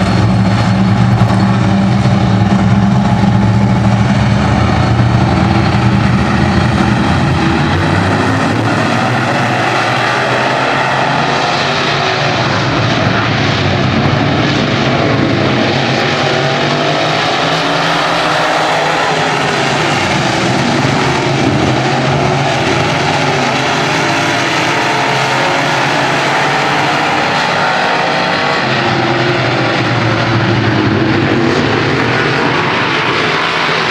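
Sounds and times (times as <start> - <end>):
racing engines running hard: 0.0 - 33.9.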